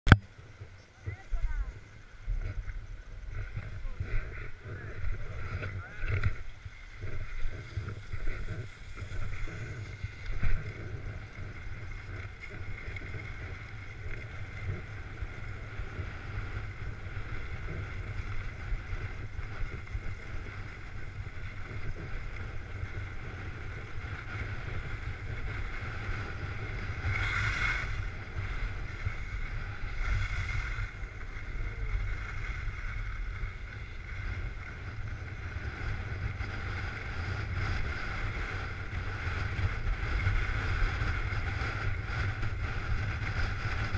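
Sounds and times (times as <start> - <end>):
wind buffeting microphone: 0.1 - 43.9
skis sliding on packed snow: 1.0 - 43.9.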